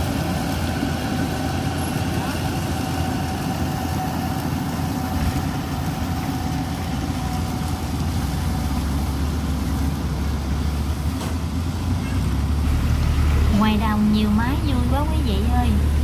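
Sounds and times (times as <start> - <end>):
heavy machine engine droning: 0.0 - 16.0.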